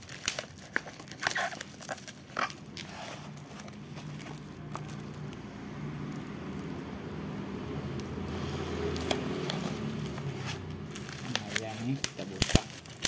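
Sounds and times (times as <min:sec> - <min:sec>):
plastic wrapping crinkling and tearing: 0:00.0 - 0:13.0.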